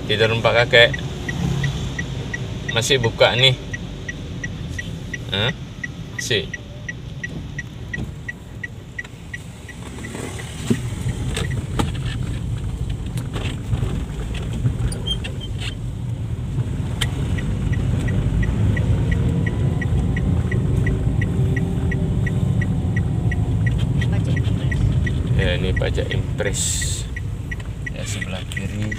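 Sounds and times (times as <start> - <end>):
car engine and tyres rumbling: 0.0 - 28.9
turn signal ticking: 0.0 - 28.9.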